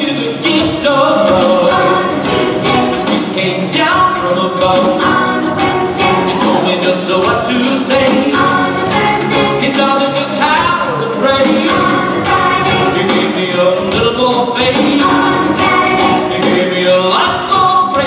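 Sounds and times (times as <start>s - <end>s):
group of voices singing with music: 0.0s - 18.0s.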